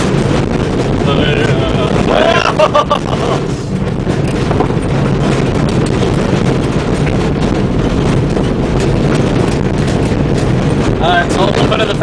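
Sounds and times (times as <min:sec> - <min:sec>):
body knocks and rattles: 0:00.0 - 0:12.0
van engine and road rumble: 0:00.0 - 0:12.0.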